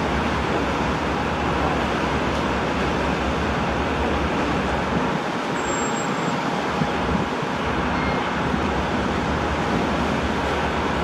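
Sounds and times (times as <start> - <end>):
ferry engines humming: 0.0 - 11.0.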